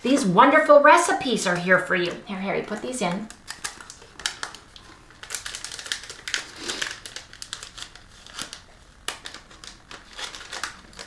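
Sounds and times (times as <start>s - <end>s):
plastic bag crinkling: 1.2s - 11.0s.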